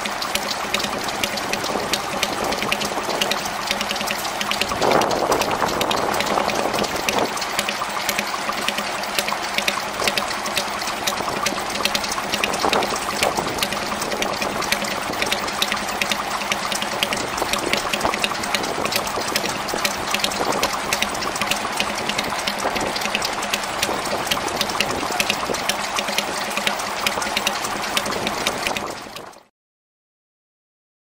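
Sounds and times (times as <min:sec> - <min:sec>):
stationary engine ticking: 0:00.0 - 0:29.5
water pouring into a bucket: 0:00.0 - 0:29.5.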